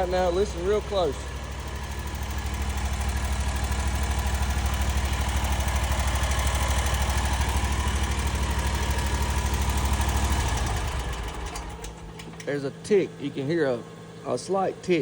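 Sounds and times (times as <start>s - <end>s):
mower engine idling with ticking: 0.0s - 15.0s.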